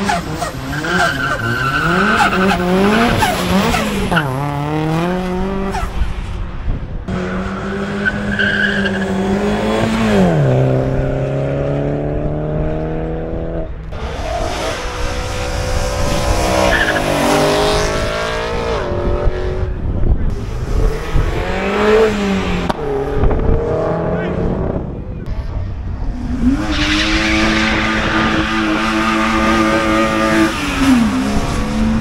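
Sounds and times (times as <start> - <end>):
car engine revving: 0.0 - 6.4, 7.1 - 32.0.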